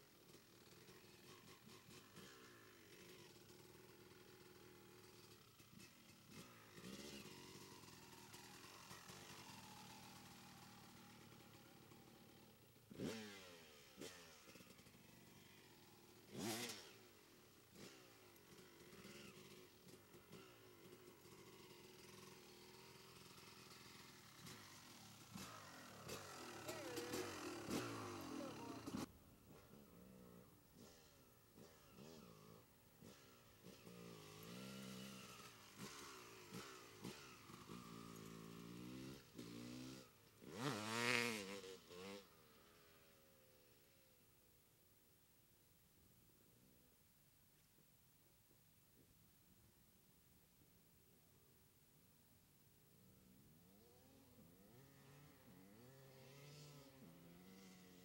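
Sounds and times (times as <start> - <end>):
dirt bike engine revving: 0.1 - 44.0, 53.1 - 58.0.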